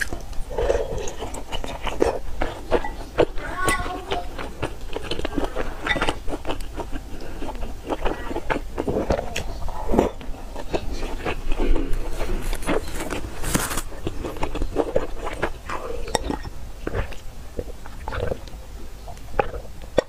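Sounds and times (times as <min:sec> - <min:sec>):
wet chewing with mouth clicks: 0:00.0 - 0:20.0.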